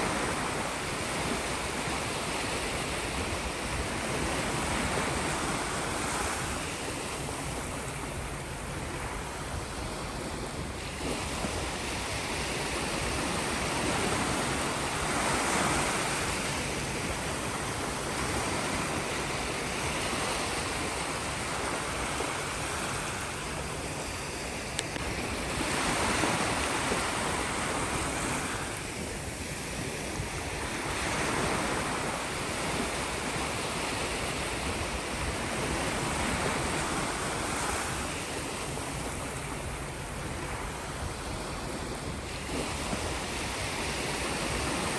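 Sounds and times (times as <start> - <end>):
sea surf washing on shore: 0.0 - 44.9.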